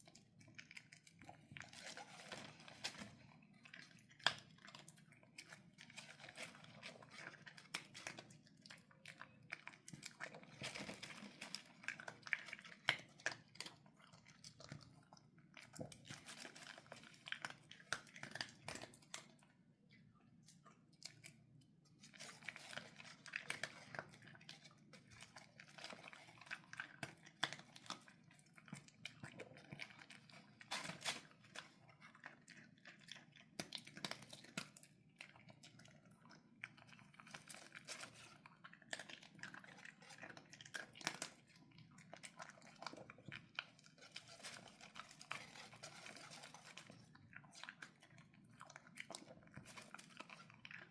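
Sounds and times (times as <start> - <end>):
pet crunching dry kibble: 0.0 - 50.9.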